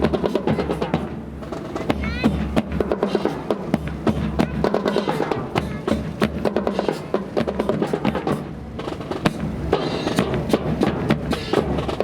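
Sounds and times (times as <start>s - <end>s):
drum and percussion music: 0.0s - 12.0s.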